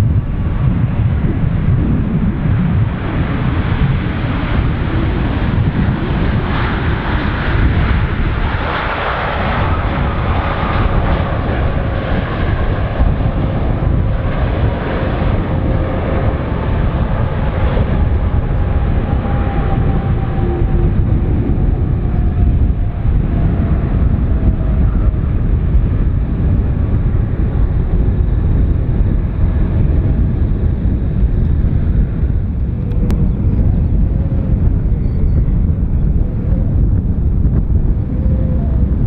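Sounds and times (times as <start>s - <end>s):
jet engine whine: 0.0s - 39.0s
jet engines rumbling: 0.0s - 39.0s.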